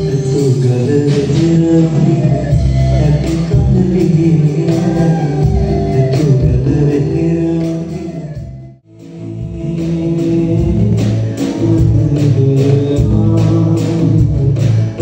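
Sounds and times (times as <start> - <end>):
live band music: 0.0 - 15.0
man singing: 0.0 - 15.0.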